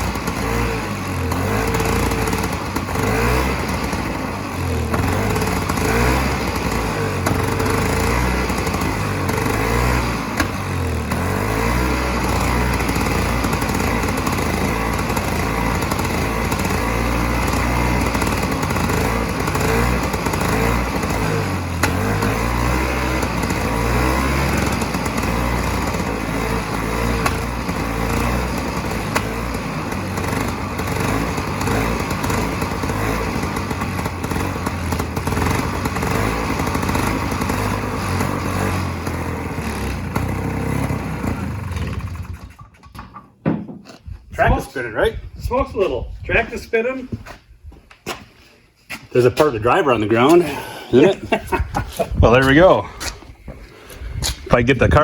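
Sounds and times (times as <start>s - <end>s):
snowmobile two-stroke engine running: 0.0s - 43.1s, 49.4s - 55.0s.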